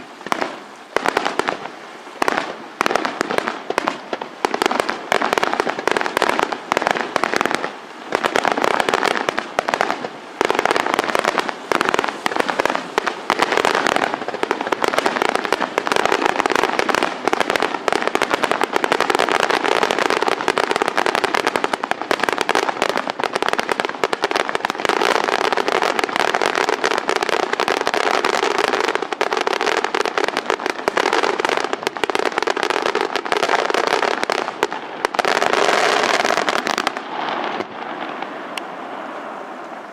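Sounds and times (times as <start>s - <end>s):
fireworks bangs and crackling: 0.0s - 38.7s.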